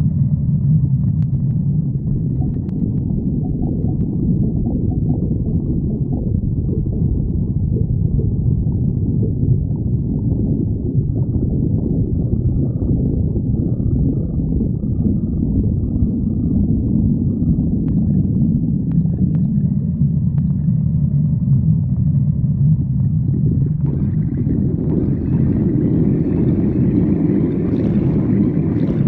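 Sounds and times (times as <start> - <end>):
stomach growling: 0.0 - 29.0.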